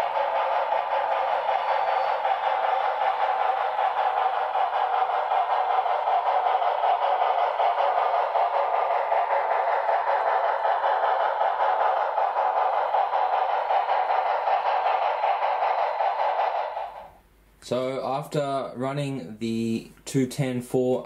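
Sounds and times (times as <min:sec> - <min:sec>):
model steam locomotive sound: 0:00.0 - 0:21.0.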